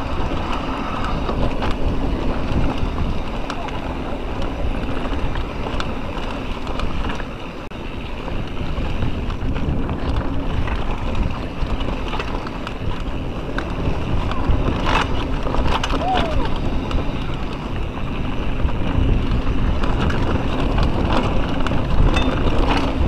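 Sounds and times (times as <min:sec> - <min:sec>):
bike rattles and clicks: 0:00.0 - 0:23.0
tyres rumbling on dirt: 0:00.0 - 0:23.0
wind buffeting microphone: 0:00.0 - 0:23.0.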